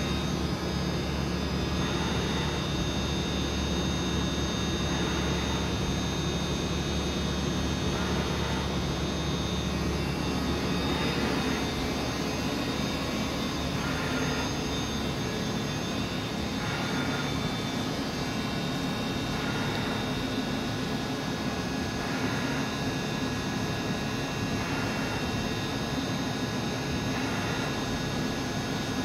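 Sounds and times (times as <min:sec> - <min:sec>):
constant whining tones: 0:00.0 - 0:29.0
lathe machine hum: 0:00.0 - 0:29.0.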